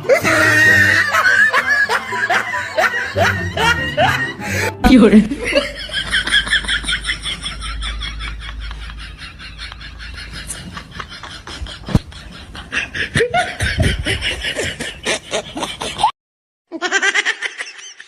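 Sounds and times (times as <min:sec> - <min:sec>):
person giggling: 0:00.0 - 0:16.1.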